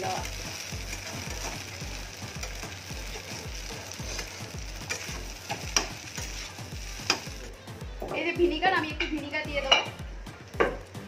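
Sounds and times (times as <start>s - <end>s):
frying sizzle: 0.0s - 11.0s.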